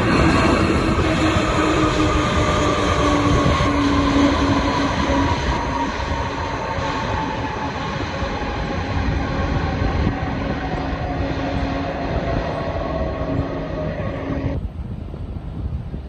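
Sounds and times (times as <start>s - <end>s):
jet airliner passing: 0.0s - 14.7s.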